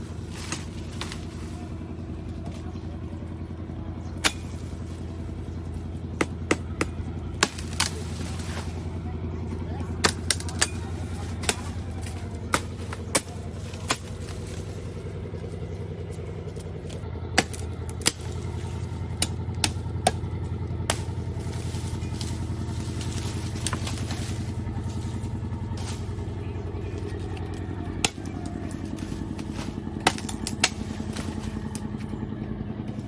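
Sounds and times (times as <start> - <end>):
small engine idling: 0.0 - 33.0.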